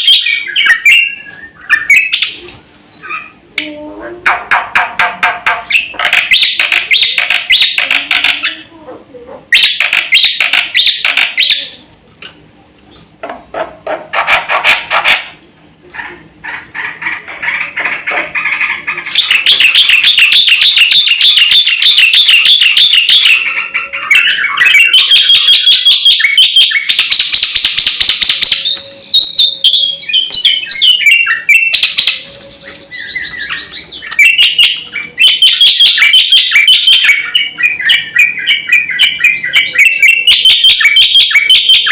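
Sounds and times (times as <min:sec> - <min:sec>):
starling singing chattering song: 0:00.0 - 0:08.8, 0:09.4 - 0:11.9, 0:14.1 - 0:41.9.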